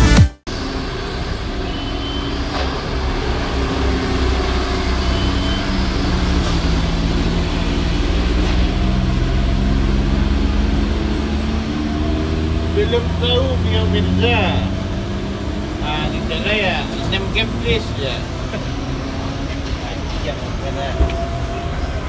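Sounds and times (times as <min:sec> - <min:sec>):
truck diesel engines droning: 0:00.0 - 0:22.0.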